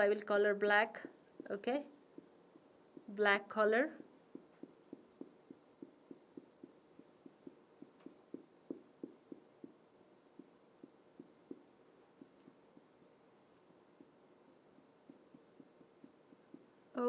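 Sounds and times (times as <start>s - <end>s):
pen strokes on paper: 1.0s - 16.9s.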